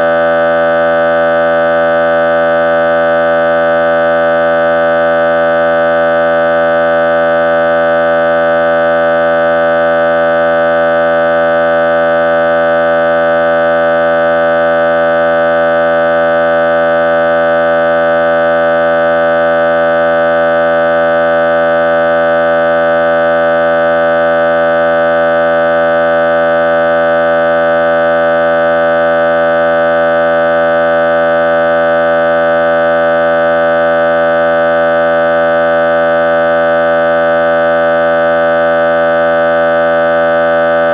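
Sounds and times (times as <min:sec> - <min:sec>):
loud steady buzzing tone: 0:00.0 - 0:40.9.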